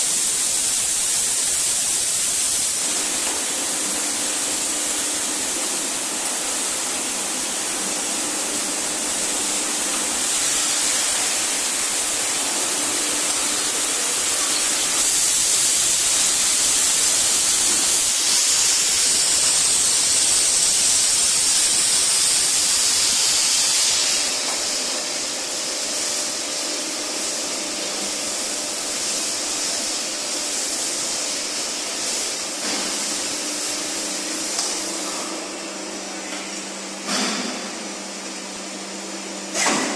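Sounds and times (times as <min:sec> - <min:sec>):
die casting machine hissing: 0:00.0 - 0:39.9.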